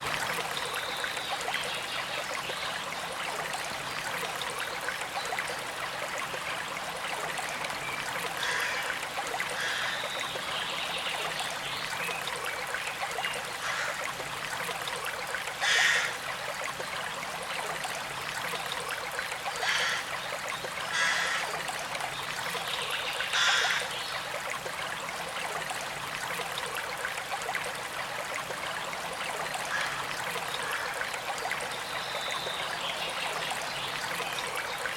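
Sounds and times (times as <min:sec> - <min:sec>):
stream trickling over stones: 0:00.0 - 0:34.9.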